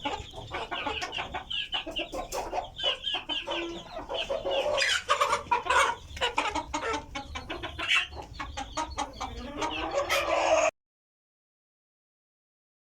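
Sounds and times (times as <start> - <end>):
chickens clucking: 0.0 - 10.8.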